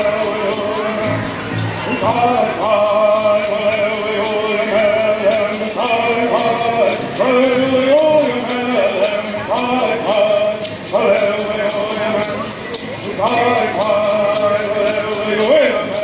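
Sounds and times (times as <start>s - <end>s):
gourd rattles shaking: 0.0s - 16.0s
group singing in unison: 0.0s - 16.0s.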